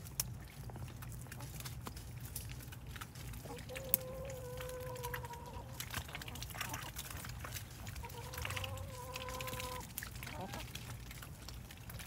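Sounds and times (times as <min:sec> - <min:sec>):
birds splashing in water: 0:00.0 - 0:12.0.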